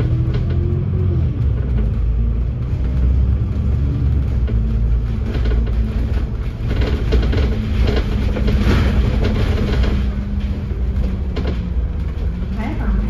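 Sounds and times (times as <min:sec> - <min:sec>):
bus body rattling: 0:00.0 - 0:13.0
bus engine and road drone: 0:00.0 - 0:13.0.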